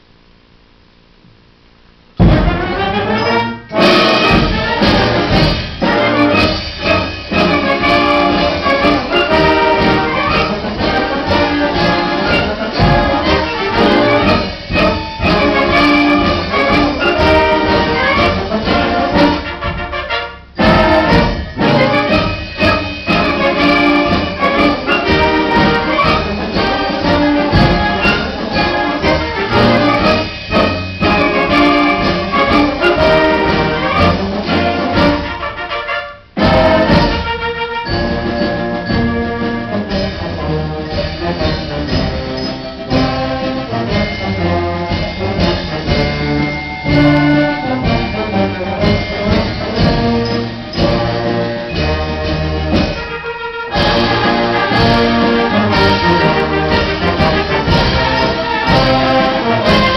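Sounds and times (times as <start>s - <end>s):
concert band playing brass: 2.2s - 59.9s.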